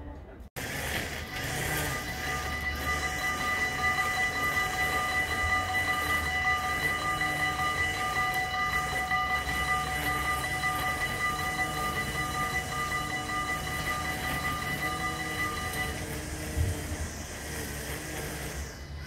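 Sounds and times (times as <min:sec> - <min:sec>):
level-crossing warning bell ringing: 0:00.6 - 0:17.1.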